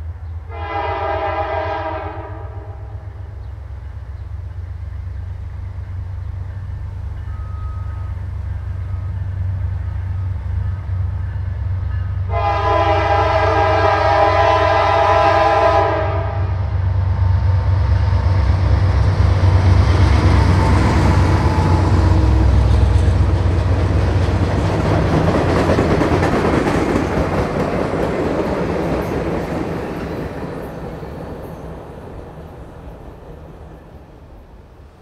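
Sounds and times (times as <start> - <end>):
diesel locomotive engine running: 0.0 - 33.9
train cars rolling on rails: 0.0 - 35.0.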